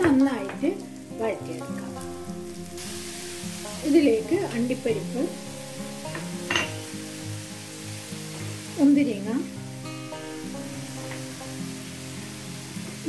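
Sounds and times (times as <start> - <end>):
filling sizzling in a frying pan: 0.0 - 13.0
soft background music: 0.0 - 13.0.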